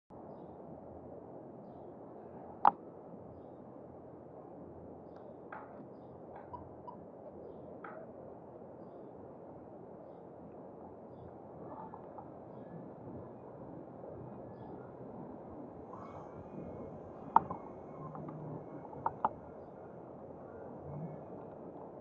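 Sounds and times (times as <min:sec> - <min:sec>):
muffled traffic hum: 0:00.1 - 0:22.0.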